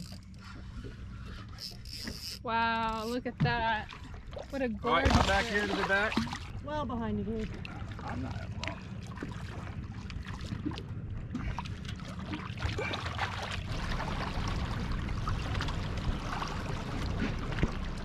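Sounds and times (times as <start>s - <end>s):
water splashing against boat hull: 0.0s - 18.0s
steady low rumble: 2.4s - 18.0s.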